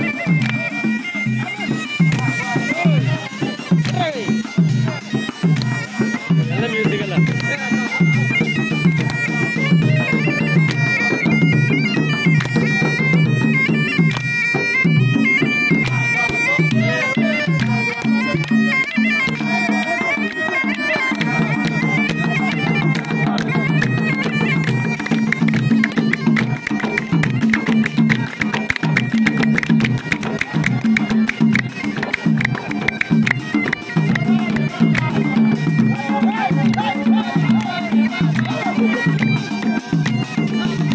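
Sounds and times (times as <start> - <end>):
frame drums beating: 0.0 - 40.9
reedy wind instrument melody: 0.0 - 40.9.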